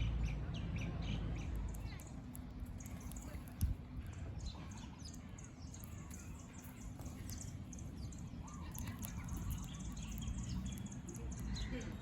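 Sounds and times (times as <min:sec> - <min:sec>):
birds chirping: 0:00.8 - 0:12.0.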